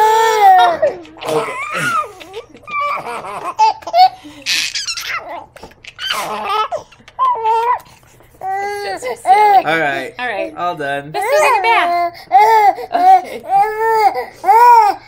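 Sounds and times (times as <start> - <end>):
baby laughing: 0.0 - 9.7, 11.2 - 15.0.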